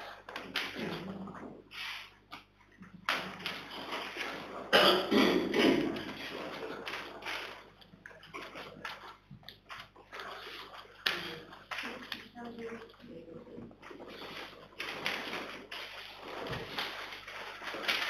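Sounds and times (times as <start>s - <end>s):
low room hum: 0.0s - 18.0s
rustling and shuffling: 0.0s - 18.0s.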